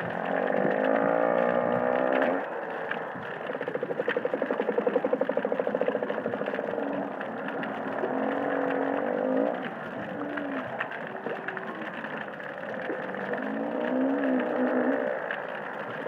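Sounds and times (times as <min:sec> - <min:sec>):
coral reef crackle: 0:00.0 - 0:16.0.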